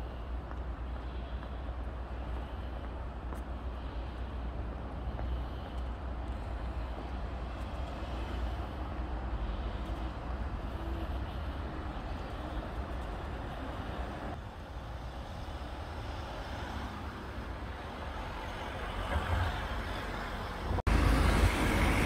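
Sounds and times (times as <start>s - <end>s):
street background noise with low rumble: 0.0s - 22.0s.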